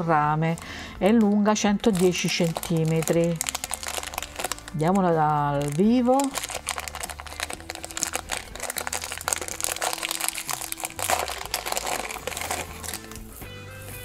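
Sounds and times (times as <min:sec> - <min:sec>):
crinkly packaging crackling: 0:00.0 - 0:13.4.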